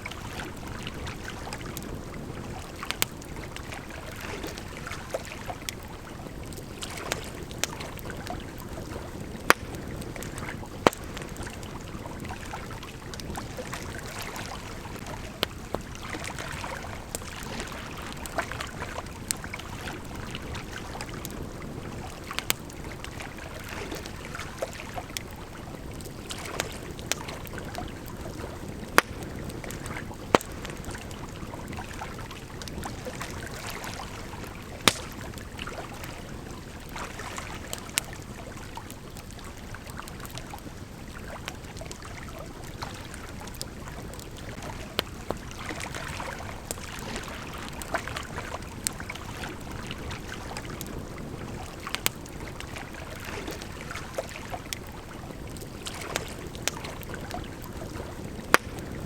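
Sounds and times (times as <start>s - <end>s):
campfire crackling and popping: 0.0s - 59.0s
river flowing: 0.0s - 59.0s.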